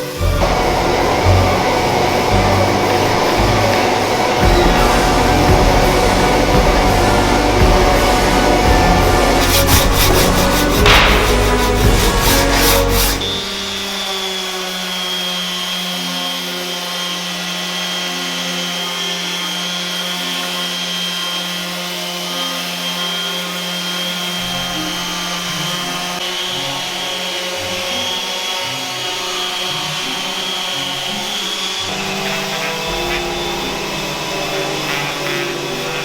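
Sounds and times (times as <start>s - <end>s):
electric sander motor whining: 0.0s - 36.0s.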